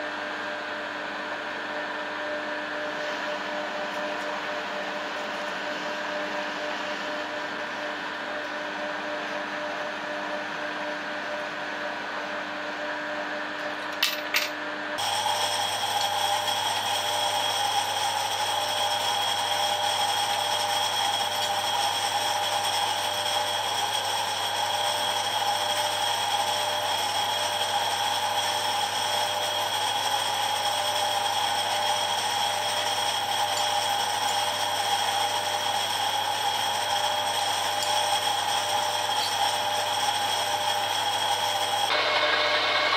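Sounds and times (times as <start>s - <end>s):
lathe machine hum: 0.0s - 13.9s, 14.9s - 42.9s.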